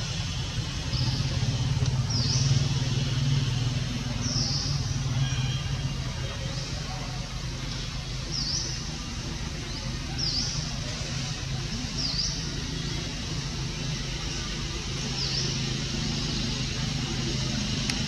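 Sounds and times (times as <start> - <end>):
vehicle engine humming: 0.0 - 18.0
bird chirping: 0.2 - 17.8.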